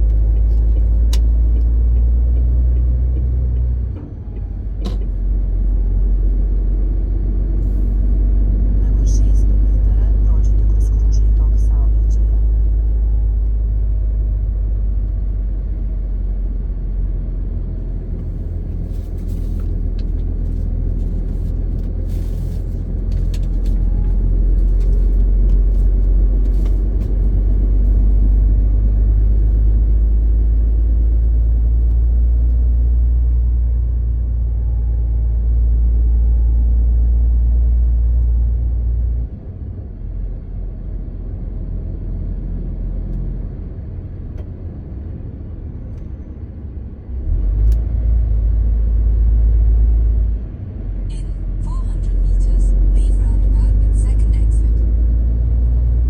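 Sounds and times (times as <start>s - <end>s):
road rumble: 0.0s - 56.0s
truck diesel engine droning: 0.0s - 56.0s.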